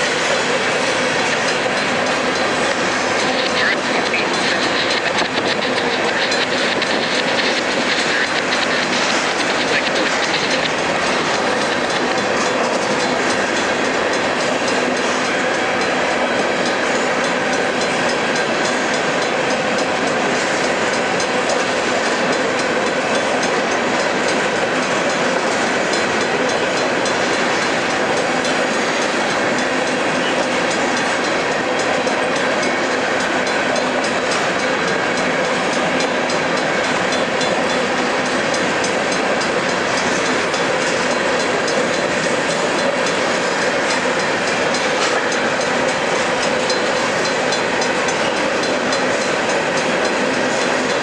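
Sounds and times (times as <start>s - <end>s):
train wheels on rails: 0.0s - 51.0s.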